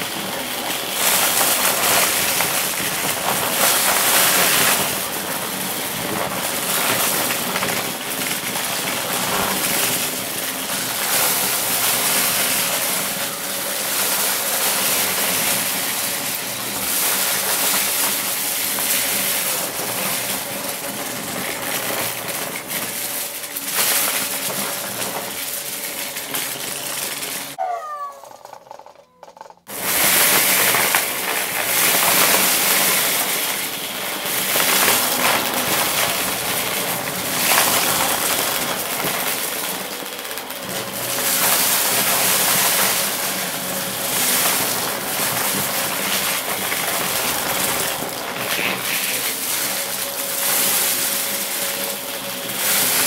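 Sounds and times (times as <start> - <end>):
vacuum cleaner running: 0.0 - 28.8, 29.7 - 53.0
hard pieces crackling and rattling: 0.2 - 53.0.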